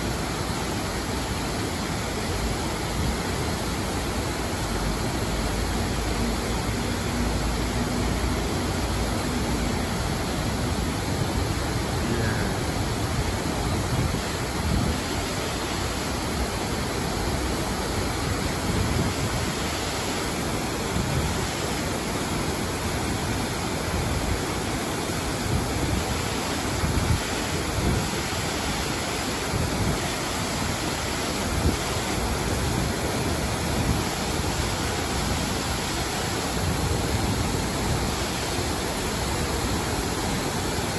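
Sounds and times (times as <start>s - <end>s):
waterfall pouring into pool: 0.0s - 40.9s.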